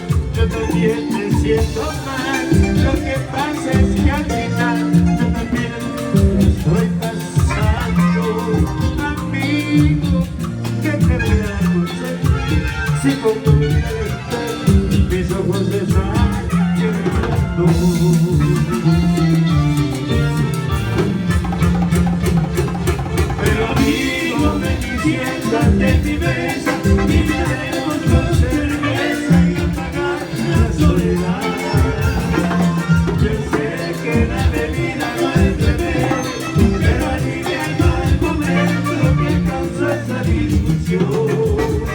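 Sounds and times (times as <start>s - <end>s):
person singing: 0.0s - 21.3s, 23.1s - 41.9s
drums and percussion: 0.0s - 41.9s
latin dance band playing: 0.0s - 41.9s.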